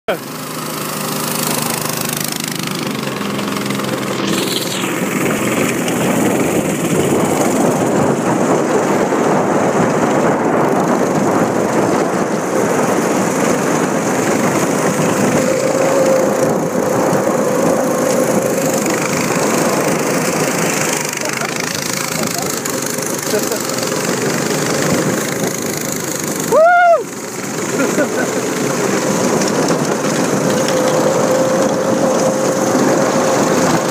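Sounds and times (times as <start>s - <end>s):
kart engine droning: 0.1s - 33.9s.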